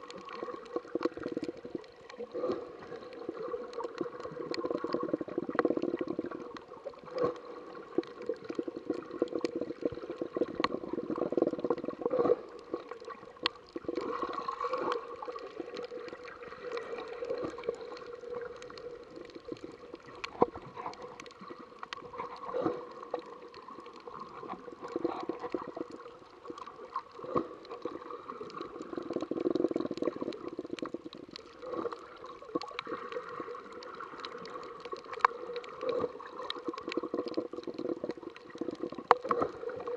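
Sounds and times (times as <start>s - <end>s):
underwater sloshing and gurgling: 0.0s - 39.9s.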